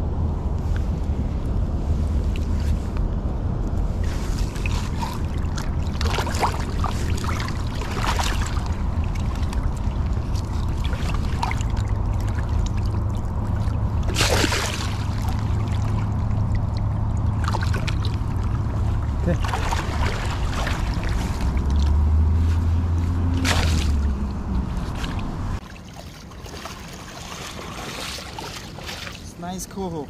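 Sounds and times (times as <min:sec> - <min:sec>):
wind rumbling on microphone: 0:00.0 - 0:25.6
river water running: 0:03.7 - 0:30.0.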